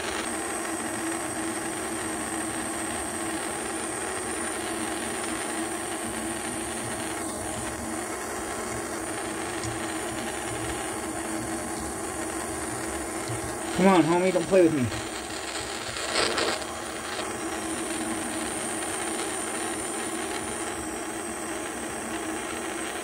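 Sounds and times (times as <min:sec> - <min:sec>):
soldering torch hissing: 0:00.0 - 0:23.0.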